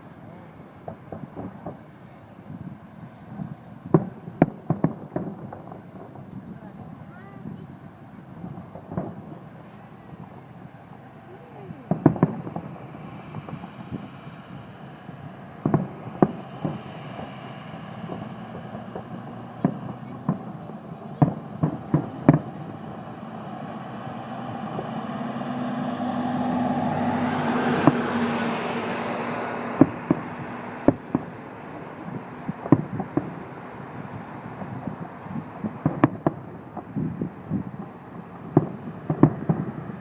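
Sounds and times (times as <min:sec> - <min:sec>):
broad noise with low hum: 0:00.0 - 0:40.0
fireworks bursting: 0:00.0 - 0:40.0.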